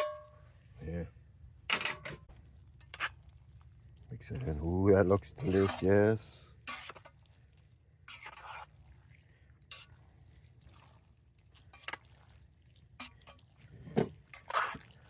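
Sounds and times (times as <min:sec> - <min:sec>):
wet squishing and dripping: 0:02.2 - 0:15.0.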